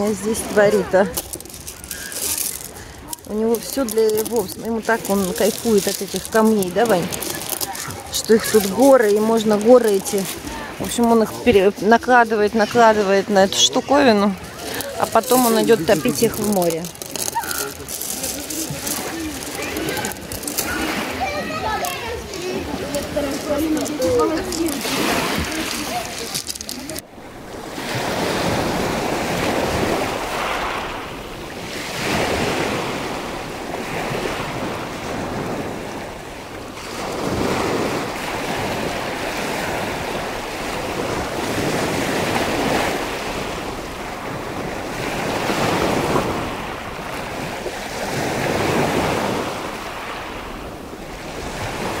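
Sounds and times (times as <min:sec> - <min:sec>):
small waves washing in: 0:00.0 - 0:52.0.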